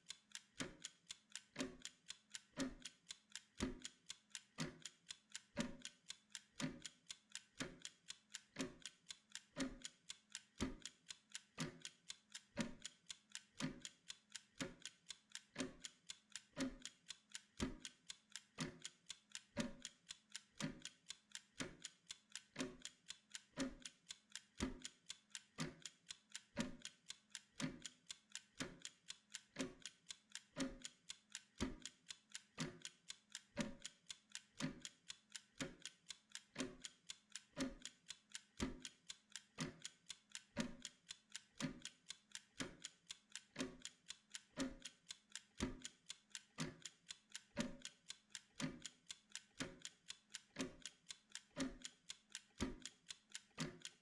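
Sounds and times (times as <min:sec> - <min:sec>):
kitchen timer ticking: 0:00.0 - 0:54.0.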